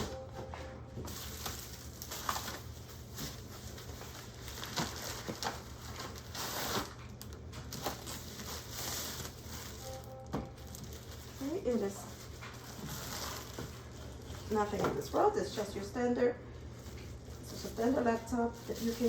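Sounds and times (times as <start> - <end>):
packaging rustling: 0.0 - 15.9, 16.6 - 19.0.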